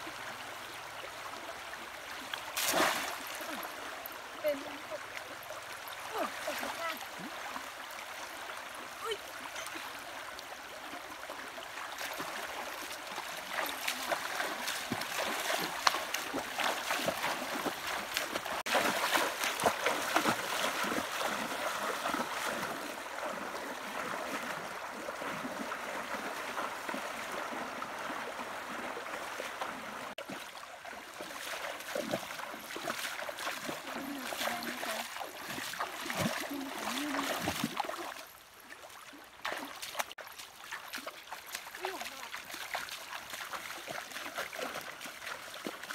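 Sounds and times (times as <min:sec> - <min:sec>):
river water rushing over stones: 0:00.0 - 0:45.9
legs wading and splashing: 0:00.3 - 0:45.9.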